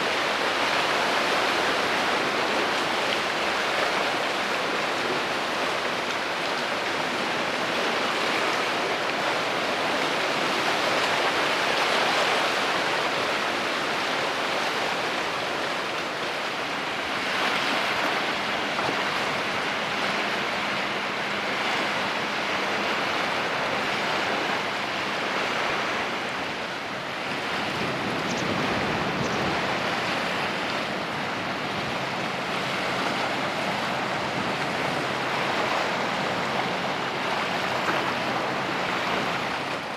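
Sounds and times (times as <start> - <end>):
water along the shore: 0.0 - 39.9
wind: 0.0 - 39.9.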